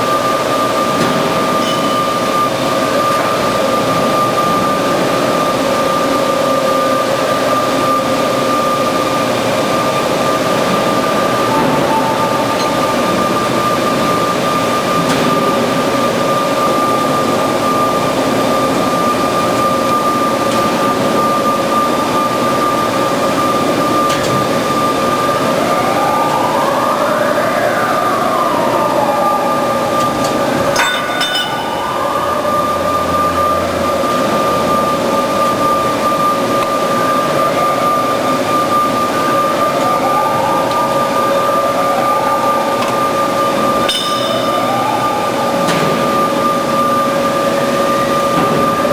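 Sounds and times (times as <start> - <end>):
band saw whining: 0.0 - 48.9.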